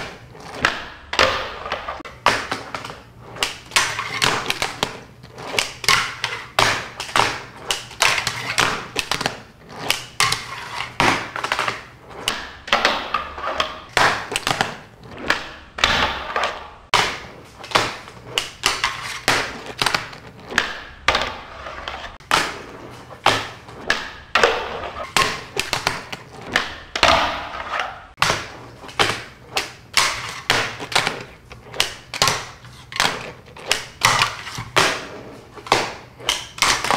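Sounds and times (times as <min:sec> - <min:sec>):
wheels rolling: 0:00.0 - 0:36.9.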